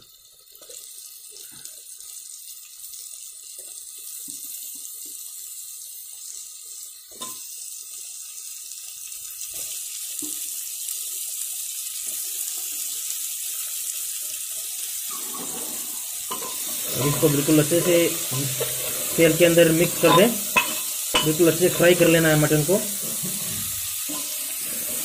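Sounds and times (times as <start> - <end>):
hot oil sizzling: 0.0 - 25.0.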